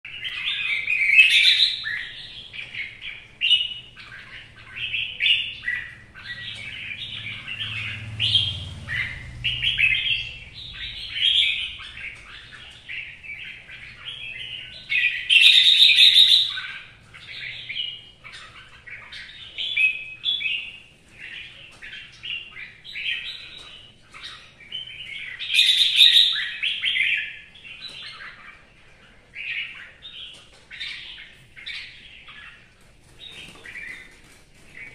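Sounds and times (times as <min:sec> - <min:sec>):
bulbul singing warbled phrases: 0:00.1 - 0:28.6.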